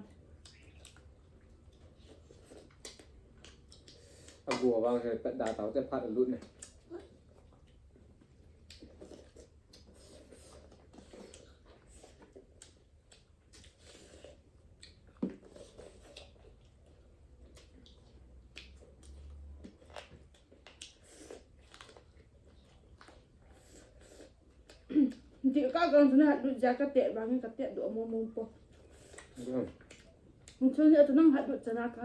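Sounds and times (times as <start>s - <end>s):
people chewing food: 0.0s - 32.0s.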